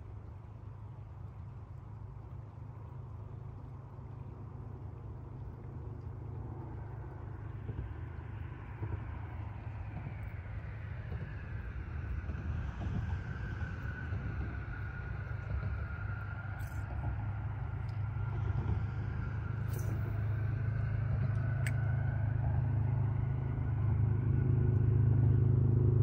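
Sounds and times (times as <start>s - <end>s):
traffic rumble on bridge: 0.0s - 26.0s.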